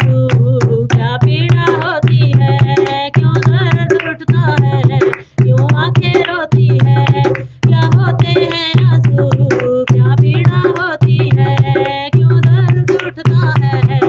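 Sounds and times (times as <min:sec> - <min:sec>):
person singing: 0:00.0 - 0:14.0
tabla strokes: 0:00.0 - 0:14.0.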